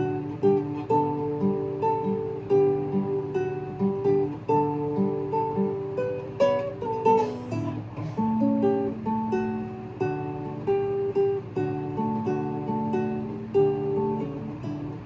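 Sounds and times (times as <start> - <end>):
acoustic guitar plucked melody: 0.0 - 15.0.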